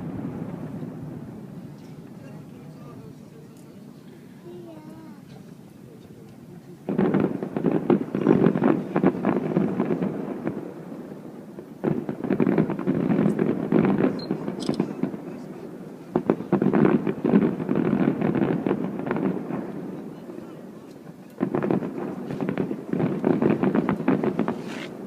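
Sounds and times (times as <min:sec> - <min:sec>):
fireworks crackling bangs: 0:00.0 - 0:25.0.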